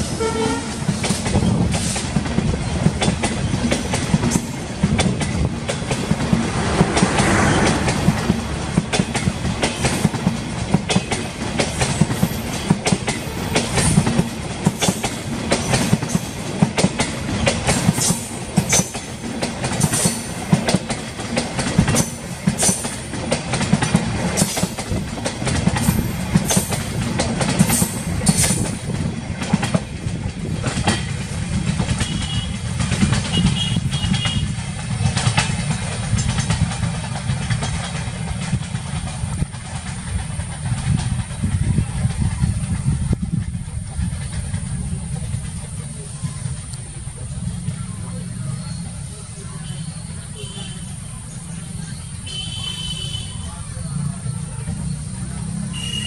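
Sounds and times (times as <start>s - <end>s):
passenger coaches rumbling past: 0.0s - 56.0s
wheels clickety-clack over rail joints: 0.0s - 56.0s.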